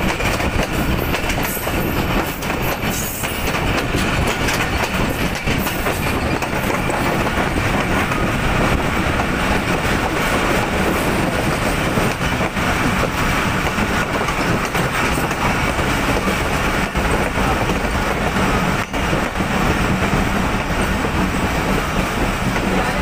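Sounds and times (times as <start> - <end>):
train wheels on rails: 0.0 - 23.0.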